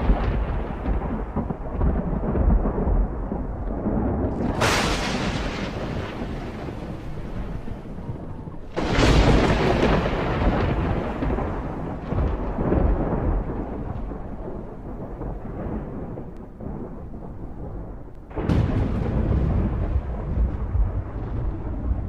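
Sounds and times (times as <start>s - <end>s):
sharp thunder clap: 0.0s - 22.0s
thunder rumbling: 0.0s - 22.0s.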